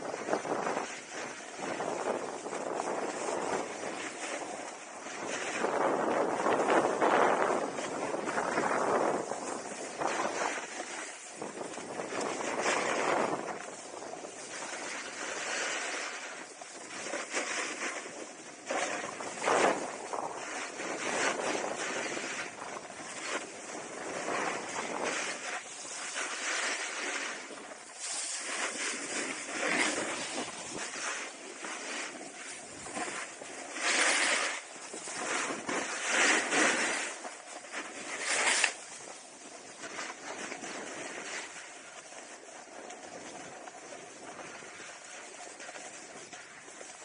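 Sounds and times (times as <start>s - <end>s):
skis sliding on snow: 0.0s - 47.0s
wind on microphone: 0.0s - 47.0s
ski edge scrapes: 0.3s - 41.7s.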